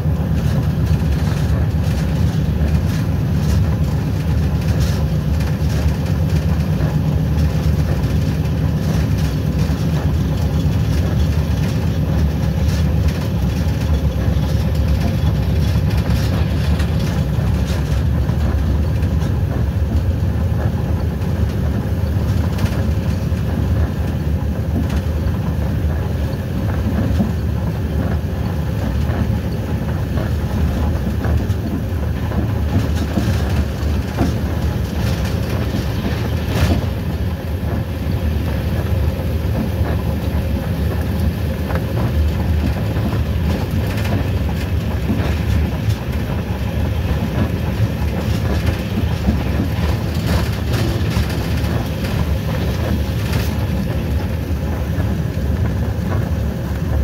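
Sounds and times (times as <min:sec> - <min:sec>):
train rumble: 0:00.0 - 0:57.0
wheel clicks on rails: 0:00.1 - 0:57.0.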